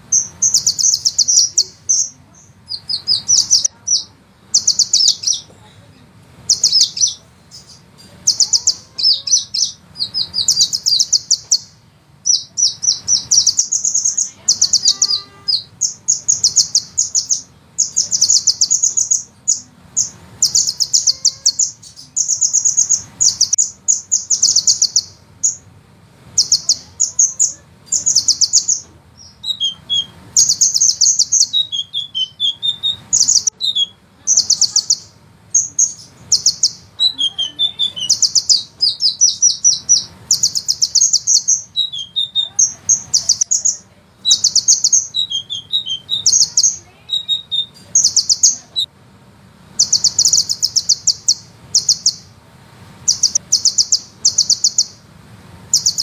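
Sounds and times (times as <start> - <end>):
bird trilling: 0.0 - 5.5, 6.5 - 25.7, 26.3 - 48.9, 49.8 - 52.4, 53.0 - 55.1, 55.7 - 56.0.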